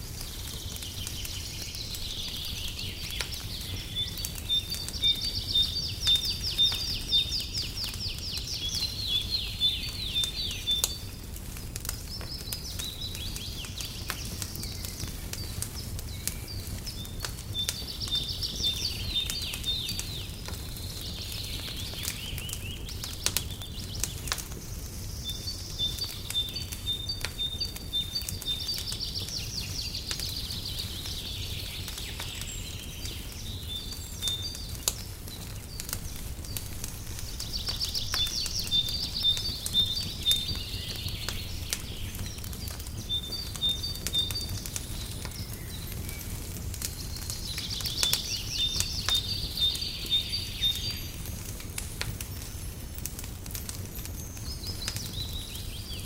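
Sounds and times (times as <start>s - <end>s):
fire crackling and popping: 0.0s - 56.0s
low fire rumble: 0.0s - 56.0s
songbird singing: 0.0s - 56.0s.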